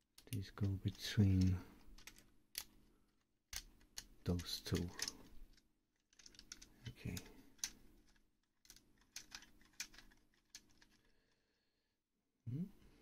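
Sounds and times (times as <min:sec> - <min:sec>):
plastic parts clicking: 0:00.1 - 0:11.2.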